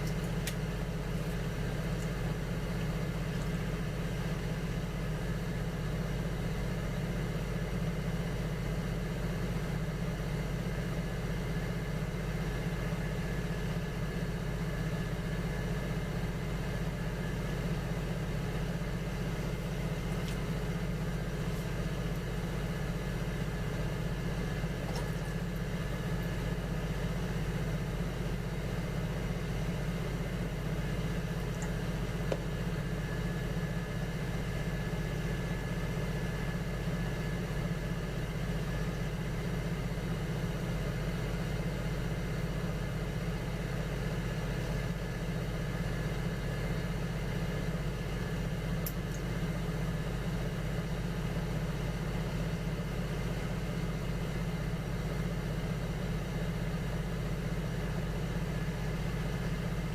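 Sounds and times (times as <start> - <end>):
potter's wheel motor hum: 0.0 - 59.9.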